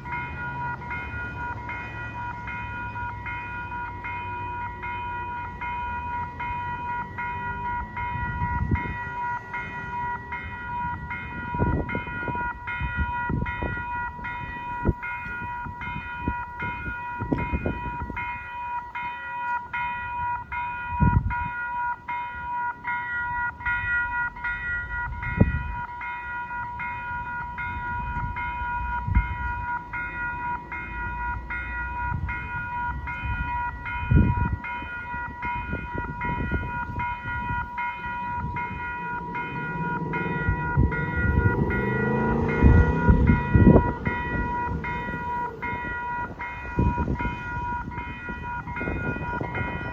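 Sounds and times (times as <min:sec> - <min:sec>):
crossing warning bell ringing: 0:00.0 - 0:49.9.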